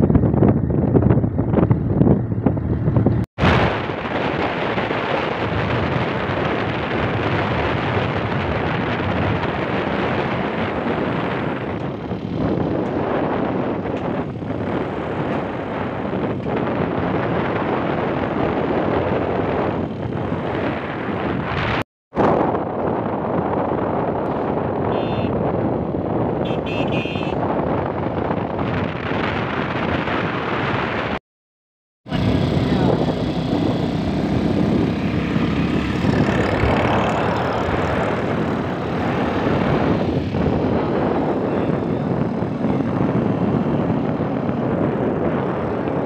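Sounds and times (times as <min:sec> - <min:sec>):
motorcycle running noise: 0:00.0 - 0:31.2, 0:32.1 - 0:46.0
vehicle engine and road noise: 0:00.0 - 0:31.2, 0:32.1 - 0:46.0
wind buffeting microphone: 0:00.0 - 0:31.2, 0:32.1 - 0:46.0.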